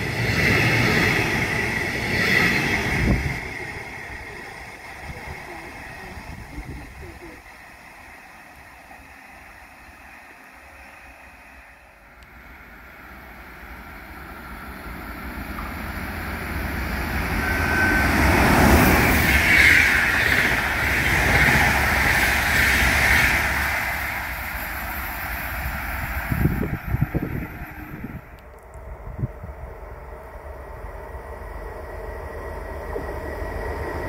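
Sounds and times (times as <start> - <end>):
passenger train passing: 0.0 - 34.0.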